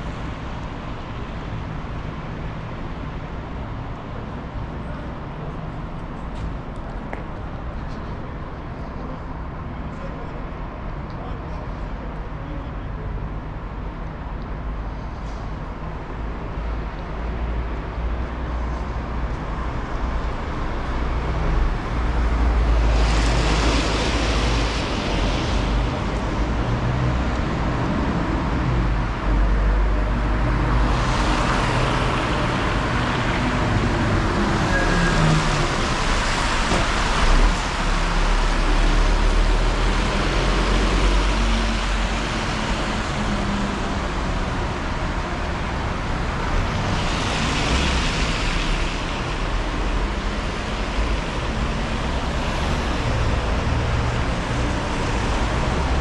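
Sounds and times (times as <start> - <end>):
road traffic rumble: 0.0 - 56.0
vehicles passing: 0.0 - 56.0.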